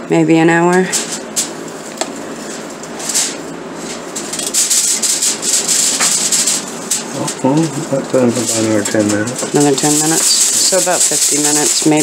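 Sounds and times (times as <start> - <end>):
foil crinkling: 0.5 - 12.0
knife scraping foil pan: 0.9 - 12.0.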